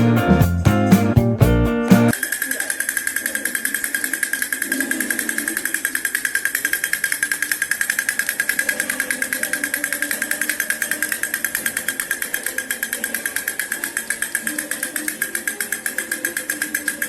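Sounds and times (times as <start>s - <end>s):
toy mechanical rattle: 2.1s - 17.0s.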